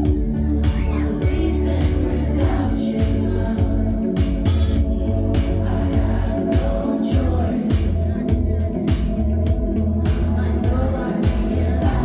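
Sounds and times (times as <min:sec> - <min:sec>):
kick drum beat: 0:00.0 - 0:12.0
live band playing indie pop: 0:00.0 - 0:12.0
person singing: 0:00.0 - 0:12.0
synth chords: 0:00.0 - 0:12.0.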